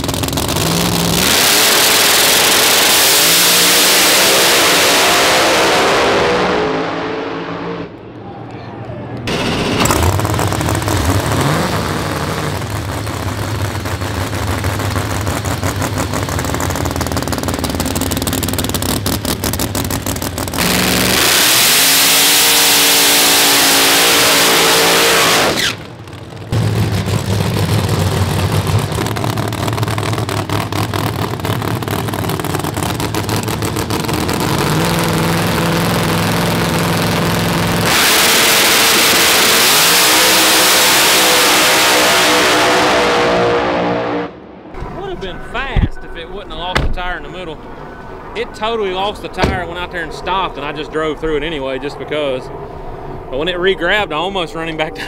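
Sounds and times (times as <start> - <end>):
car engine revving: 0.0 - 8.0, 9.3 - 45.0, 48.8 - 52.2.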